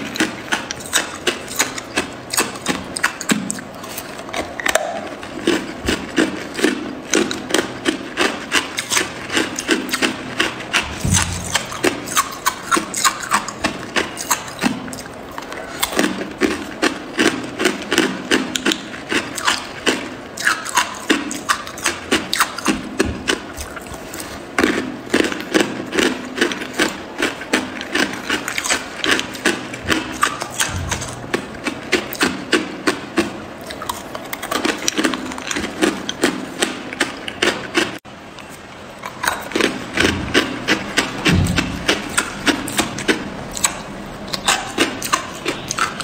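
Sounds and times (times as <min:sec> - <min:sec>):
crushed ice being chewed: 0:00.0 - 0:46.0.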